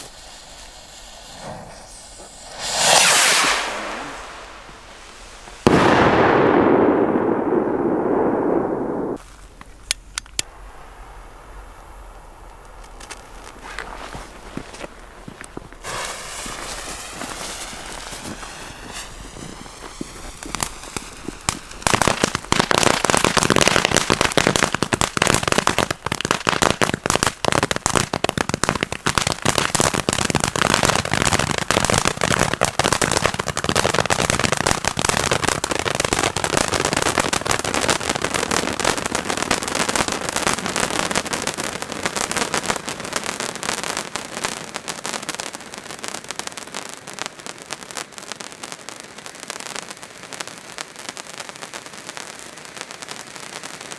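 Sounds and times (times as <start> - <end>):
firework fountain crackling: 0.0 - 53.9.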